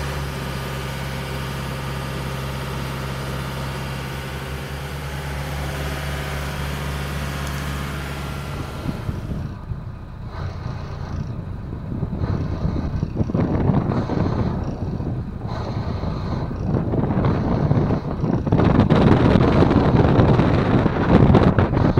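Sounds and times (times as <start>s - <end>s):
boat engine running: 0.0s - 21.9s
wind buffeting microphone: 2.2s - 21.9s.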